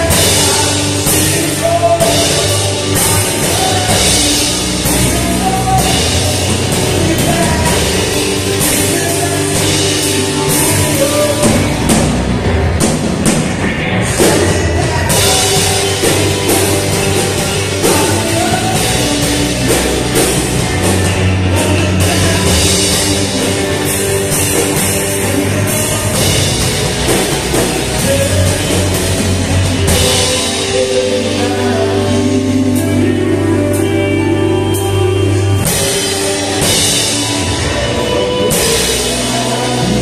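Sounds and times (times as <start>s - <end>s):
man singing: 0.0s - 12.8s, 13.5s - 40.0s
drum kit: 0.0s - 40.0s
electric guitar: 0.0s - 40.0s
keyboard: 0.0s - 40.0s.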